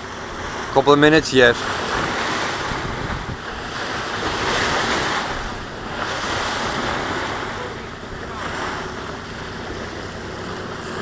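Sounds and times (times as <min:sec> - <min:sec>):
sea water rushing along hull: 0:00.0 - 0:11.0
wind buffeting microphone: 0:00.0 - 0:11.0.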